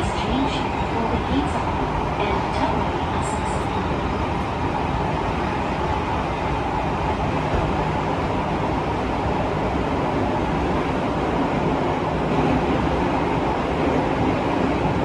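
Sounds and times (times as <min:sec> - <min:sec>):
subway car body noise: 0:00.0 - 0:15.0
train wheels rumbling on rail: 0:00.0 - 0:15.0.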